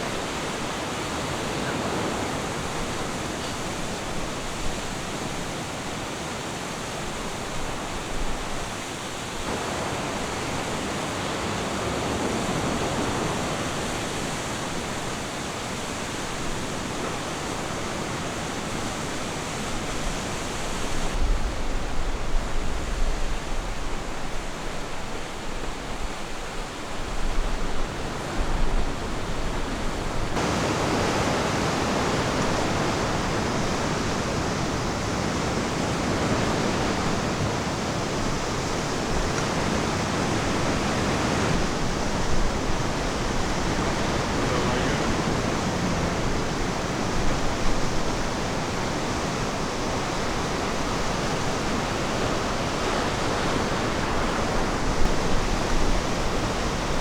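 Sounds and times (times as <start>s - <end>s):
ocean surf washing onto beach: 0.0s - 57.0s.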